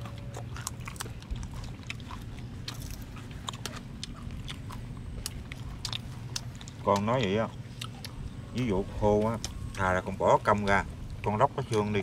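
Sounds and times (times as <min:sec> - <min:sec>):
low hum: 0:00.0 - 0:12.0
person chewing crunchy food: 0:00.0 - 0:12.0.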